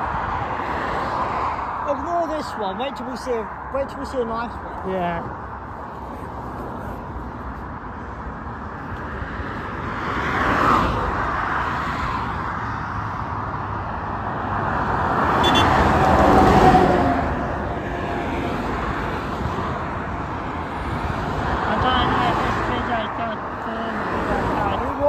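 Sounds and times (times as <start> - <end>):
steady traffic rumble: 0.0 - 25.0
vehicles passing close by: 0.0 - 25.0.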